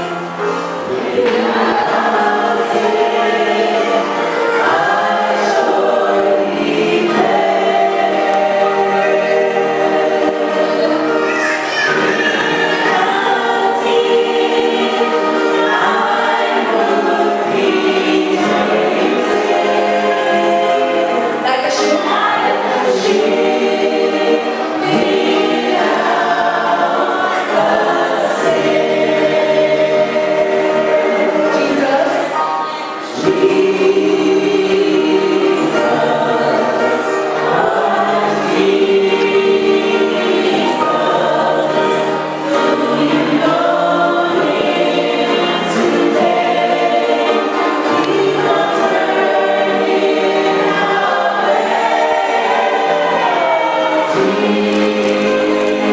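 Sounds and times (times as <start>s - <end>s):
choir singing: 0.0s - 55.9s.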